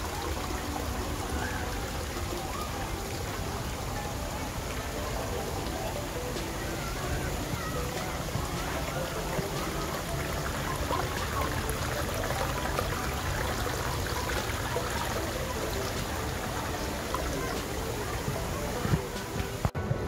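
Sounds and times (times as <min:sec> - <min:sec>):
water splashing into pool: 0:00.0 - 0:19.8
water trickling over rocks: 0:00.0 - 0:19.8.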